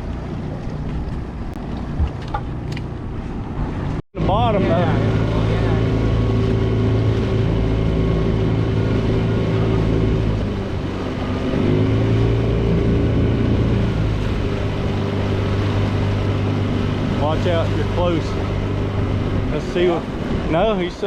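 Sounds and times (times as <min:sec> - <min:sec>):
boat motor running: 0:00.0 - 0:21.0.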